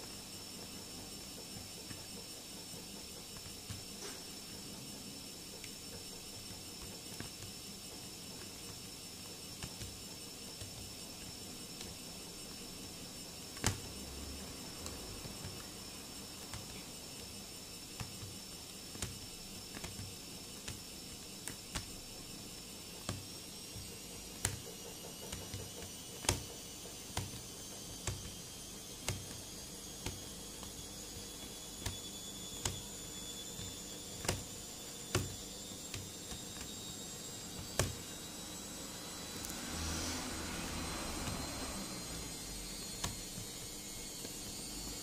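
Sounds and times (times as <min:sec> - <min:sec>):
faint high-pitched whine: 0:00.0 - 0:45.0.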